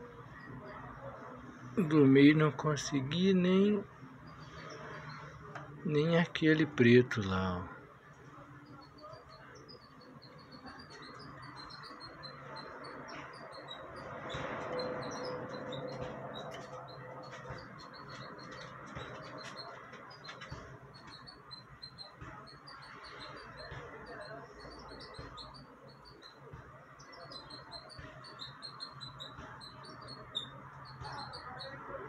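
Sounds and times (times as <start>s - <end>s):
faint background noise: 0.0s - 32.0s
small birds chirping: 1.8s - 7.7s, 8.5s - 32.0s.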